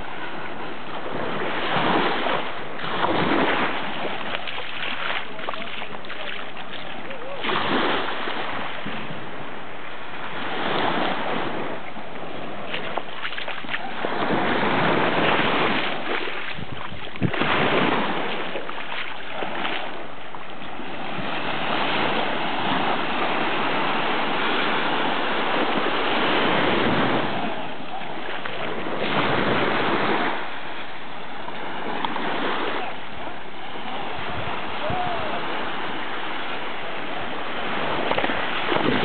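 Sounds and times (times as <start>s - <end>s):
small waves washing on sand: 0.0s - 39.0s
wind gusting on microphone: 0.0s - 39.0s.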